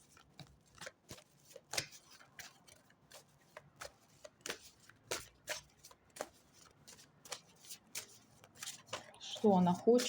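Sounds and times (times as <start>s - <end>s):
cards snapping and slapping: 0.2s - 9.1s.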